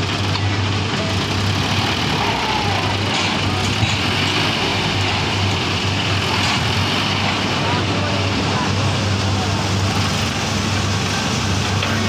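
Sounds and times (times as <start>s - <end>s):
machinery noise: 0.0s - 12.0s
tractor engine running: 0.0s - 12.0s.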